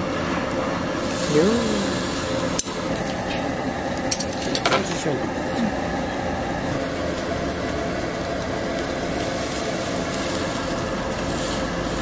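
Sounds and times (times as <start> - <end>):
low hum: 0.0 - 12.0
meat sizzling on a grill: 0.8 - 12.0.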